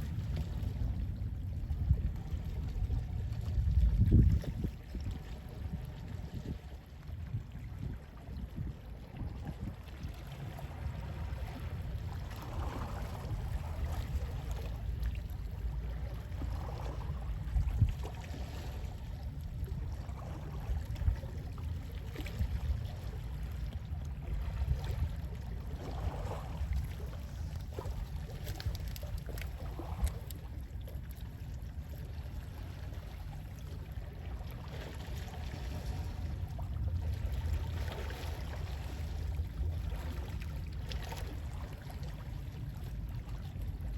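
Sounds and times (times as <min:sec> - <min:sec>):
low wind rumble: 0:00.0 - 0:43.9
small waves lapping: 0:00.0 - 0:43.9.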